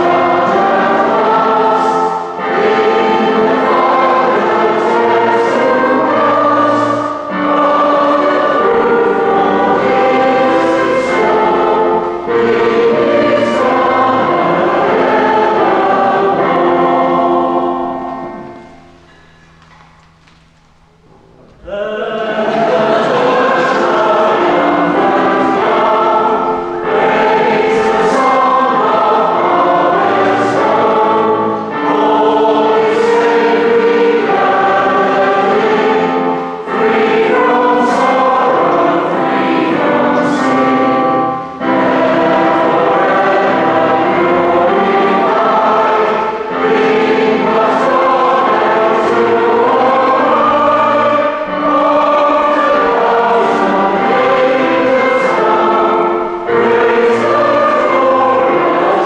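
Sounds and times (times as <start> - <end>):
many voices singing a hymn: 0.0 - 19.4, 21.6 - 59.0.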